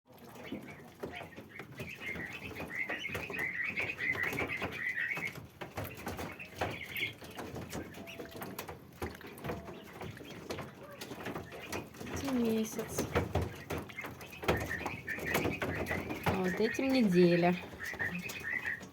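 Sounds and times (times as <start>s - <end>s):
ducklings peeping: 0.1s - 18.9s.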